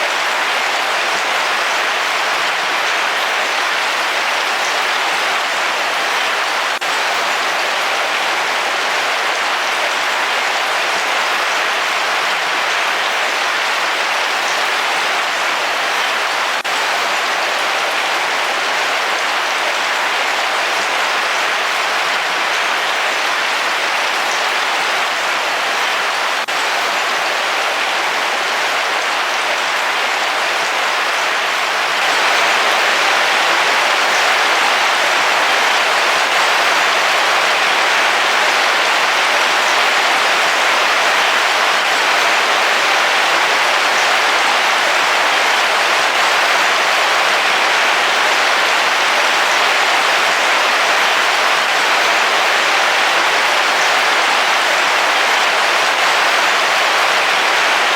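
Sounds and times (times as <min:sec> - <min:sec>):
heavy rain on a vehicle roof: 0:00.0 - 0:57.9.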